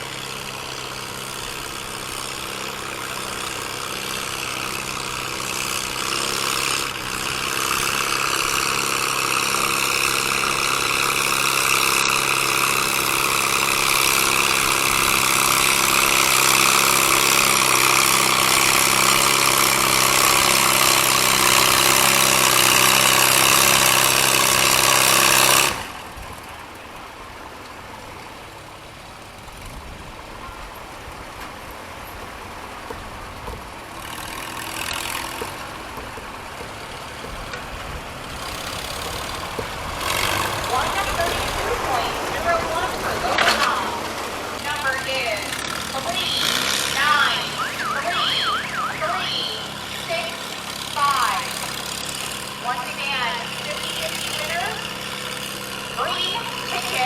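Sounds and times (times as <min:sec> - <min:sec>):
tractor engine running steadily: 0:00.0 - 0:57.0.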